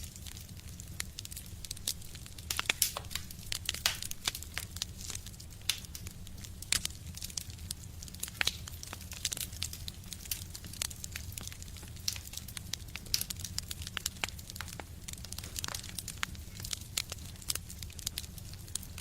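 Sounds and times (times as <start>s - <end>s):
fire pops and snaps: 0.0s - 19.0s
wood fire crackling: 0.0s - 19.0s.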